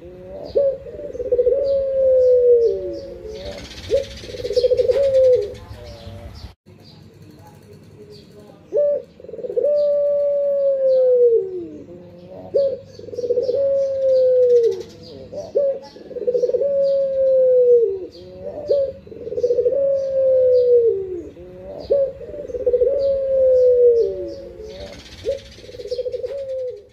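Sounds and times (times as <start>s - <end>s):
dove cooing: 0.0s - 6.4s, 8.7s - 26.9s.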